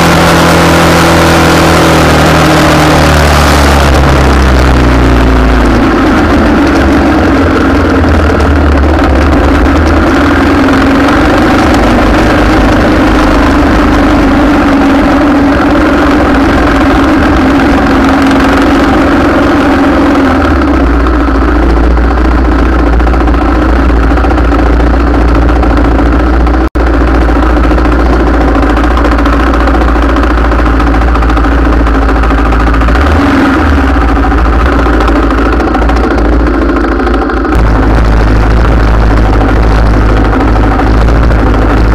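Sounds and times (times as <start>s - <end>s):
vehicle engine idling: 0.0s - 41.9s.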